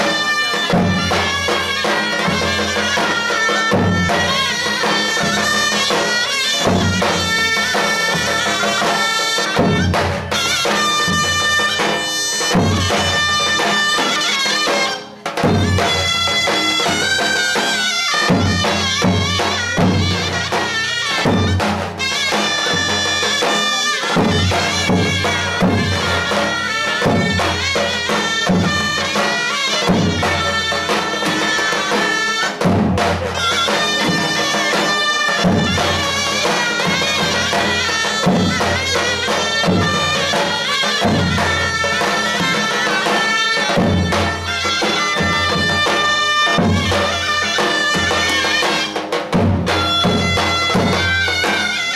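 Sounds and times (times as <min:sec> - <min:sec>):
large drum beats: 0:00.0 - 0:51.9
shawm melody: 0:00.0 - 0:51.9.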